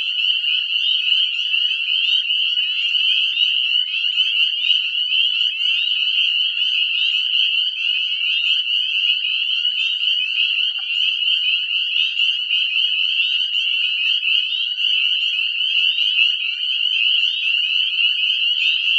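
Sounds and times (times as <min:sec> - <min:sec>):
chorus of frog peeps: 0:00.0 - 0:18.9.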